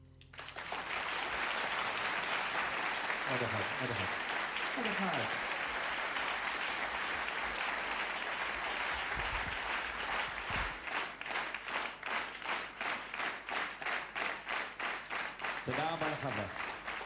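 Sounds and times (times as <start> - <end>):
rhythmic clapping in unison: 0.2 - 17.0
audience applauding: 0.3 - 17.0.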